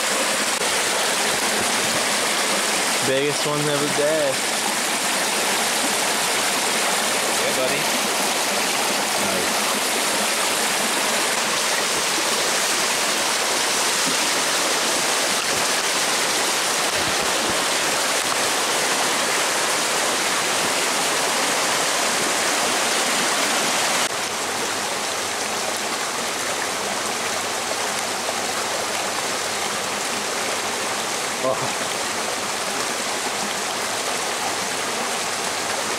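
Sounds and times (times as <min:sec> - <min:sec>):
stream rushing over rocks: 0:00.0 - 0:35.9.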